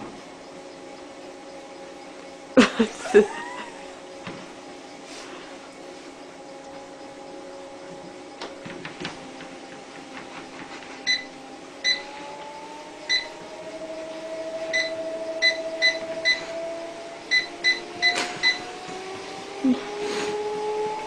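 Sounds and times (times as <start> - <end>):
treadmill motor whining: 0.0 - 21.0.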